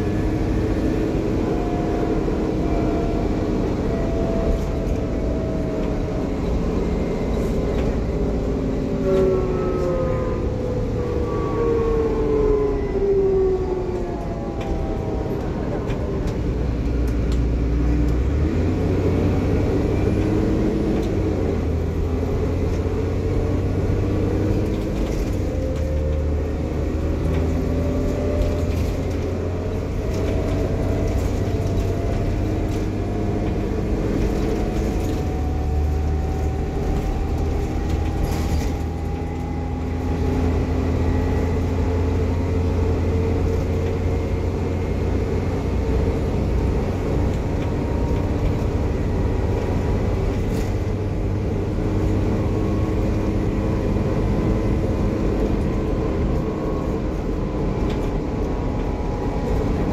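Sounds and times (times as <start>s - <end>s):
diesel bus engine rumble: 0.0s - 59.9s
transmission whine rising: 0.0s - 59.9s.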